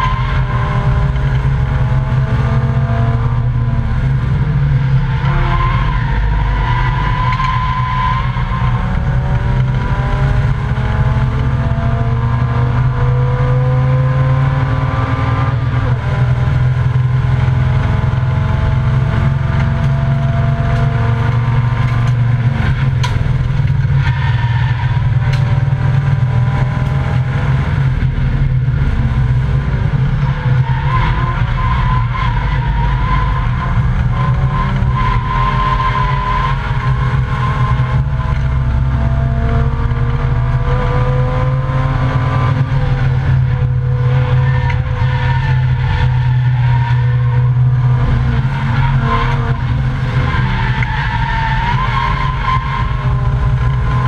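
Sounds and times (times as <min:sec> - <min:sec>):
race car engine revving through gears: 0:00.0 - 0:54.0
road and wind drone: 0:00.0 - 0:54.0.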